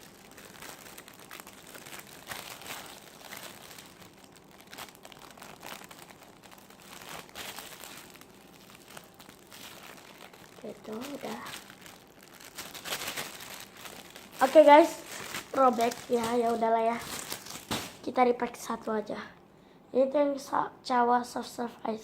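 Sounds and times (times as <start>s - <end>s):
plastic bag crinkling: 0.0s - 18.1s.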